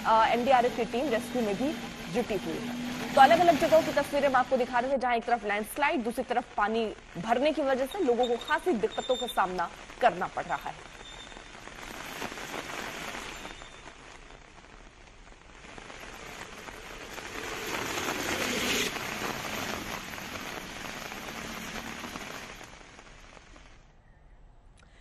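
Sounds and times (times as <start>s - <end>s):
heavy rain: 0.0s - 23.9s.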